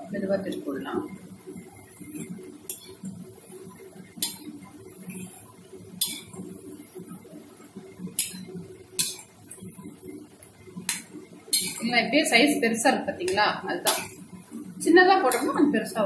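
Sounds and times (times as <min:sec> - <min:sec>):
frying oil bubbling: 0:00.0 - 0:16.0.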